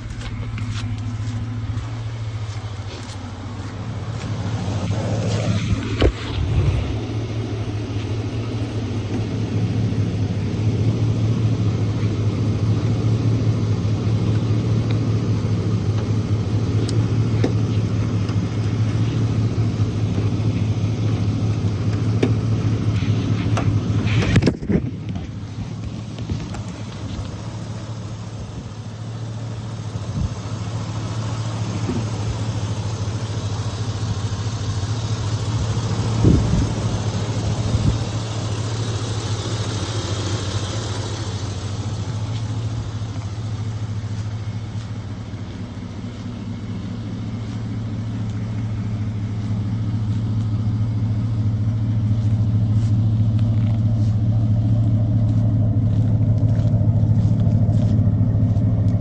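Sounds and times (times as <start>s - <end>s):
car engine humming: 0.0s - 59.0s.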